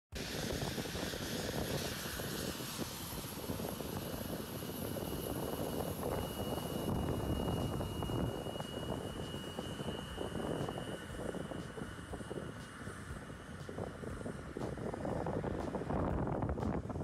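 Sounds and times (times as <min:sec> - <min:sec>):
thin steady whine: 0:00.2 - 0:17.0.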